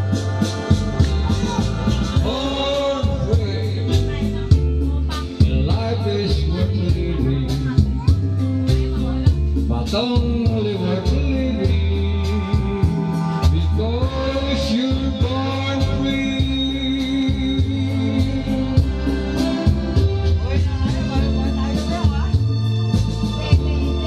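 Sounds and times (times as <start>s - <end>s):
backing track with beat and bass: 0.0s - 24.0s
man singing into a microphone: 1.3s - 22.0s.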